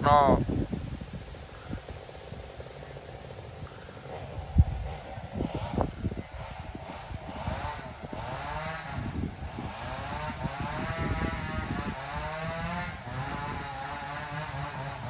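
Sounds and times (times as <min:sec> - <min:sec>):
small engine revving: 0:00.0 - 0:15.0.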